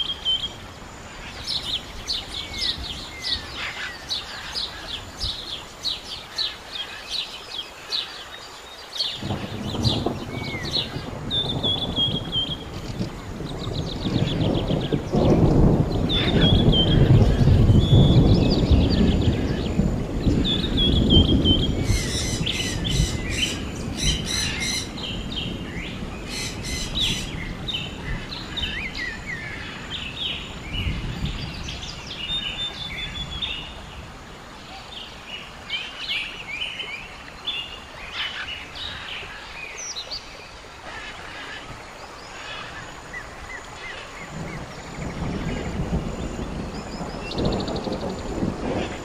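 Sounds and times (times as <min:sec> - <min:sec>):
birds singing and chirping: 0:00.0 - 0:49.0.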